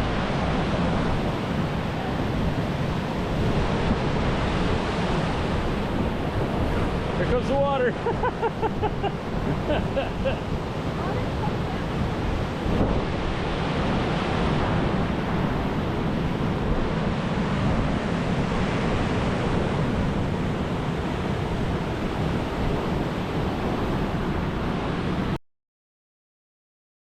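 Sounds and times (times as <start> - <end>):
waves washing on a shore: 0.0 - 25.4
wind buffeting microphone: 0.0 - 25.4.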